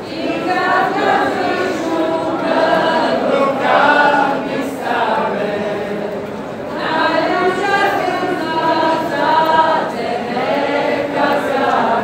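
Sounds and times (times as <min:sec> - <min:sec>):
crowd singing unaccompanied: 0:00.0 - 0:12.0.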